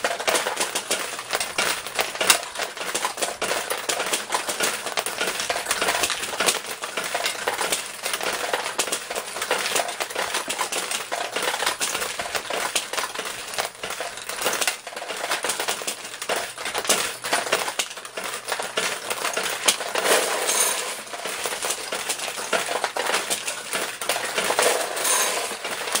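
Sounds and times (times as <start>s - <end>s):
metal balls clattering on pins: 0.0s - 26.0s.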